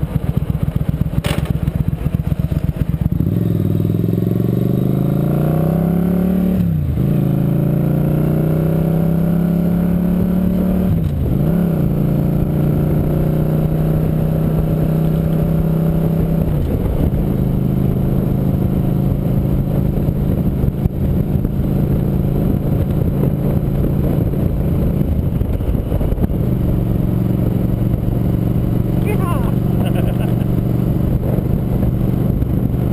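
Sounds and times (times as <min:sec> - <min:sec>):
motorcycle engine shifting gears: 0:00.0 - 0:32.9.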